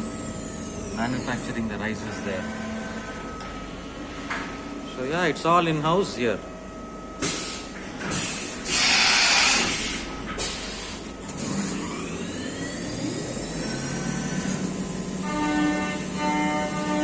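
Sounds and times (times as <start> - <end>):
machine whine: 0.0 - 17.0.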